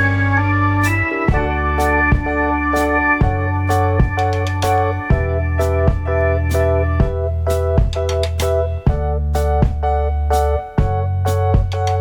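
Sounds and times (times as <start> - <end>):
keyboard-led instrumental music: 0.0 - 12.0.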